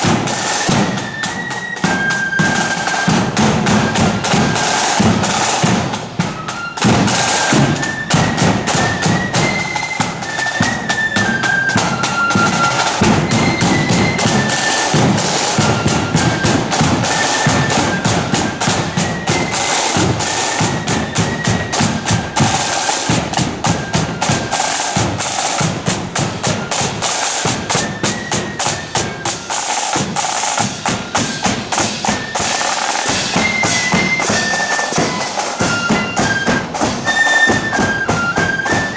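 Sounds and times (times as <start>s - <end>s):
flutes playing a melody: 0.0s - 38.9s
rapid snare drumming: 0.0s - 38.9s.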